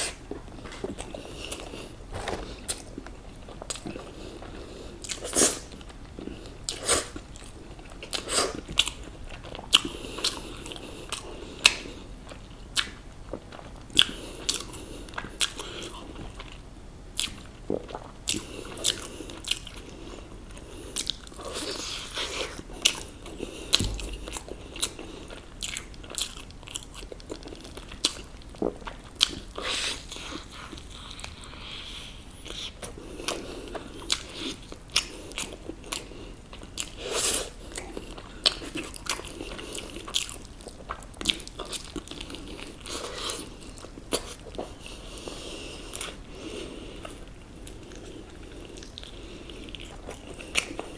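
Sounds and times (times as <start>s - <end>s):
crunching and chewing fried chicken: 0.0s - 50.9s.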